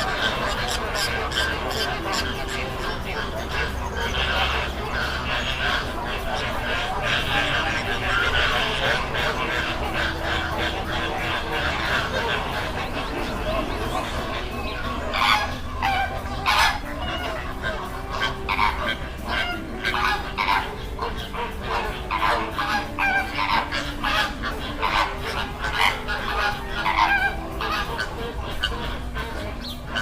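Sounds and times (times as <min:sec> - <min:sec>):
flamingos honking: 0:00.0 - 0:30.0.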